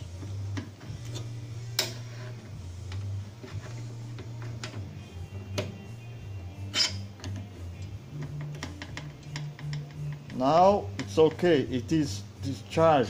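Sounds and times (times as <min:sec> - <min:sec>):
low background music: 0:00.0 - 0:13.0.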